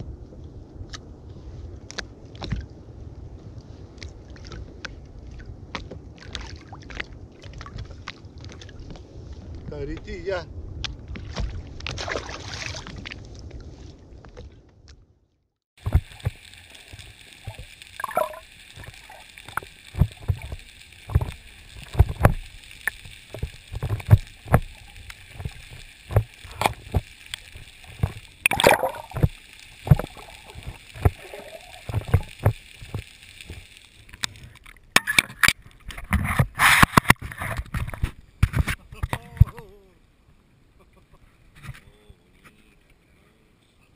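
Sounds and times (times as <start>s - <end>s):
water gurgling and sloshing: 1.9s - 9.7s, 10.6s - 15.2s, 15.8s - 39.7s.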